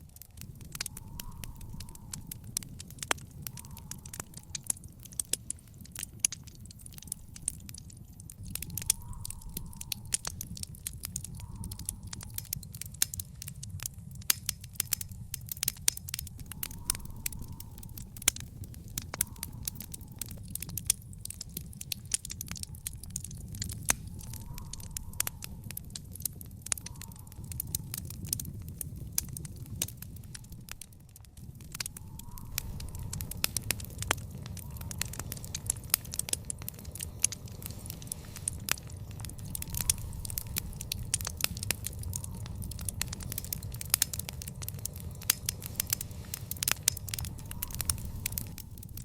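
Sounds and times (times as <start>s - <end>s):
fire popping and snapping: 0.0s - 49.0s
low fire rumble: 0.0s - 49.0s
wood fire crackling: 0.0s - 49.0s.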